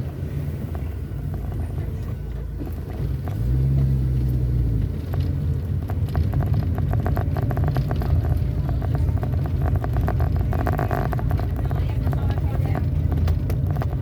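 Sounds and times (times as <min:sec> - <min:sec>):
knocks and rattles on rough road: 0:00.0 - 0:14.0
vehicle engine drone: 0:00.0 - 0:14.0.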